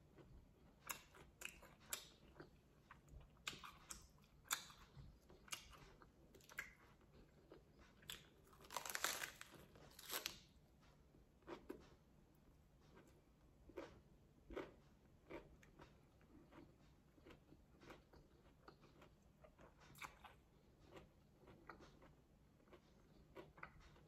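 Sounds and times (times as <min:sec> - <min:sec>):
person chewing crunchy food: 0:00.0 - 0:10.6, 0:11.3 - 0:24.0.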